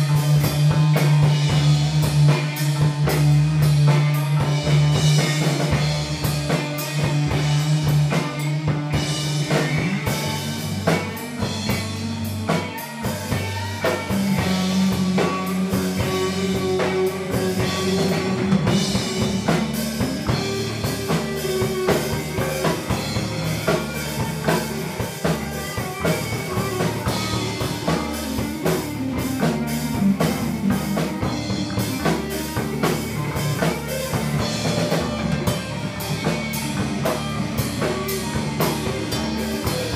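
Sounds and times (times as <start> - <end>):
drum kit: 0.0 - 39.9
guitar playing a groove: 0.0 - 39.9
held low notes: 0.0 - 39.9.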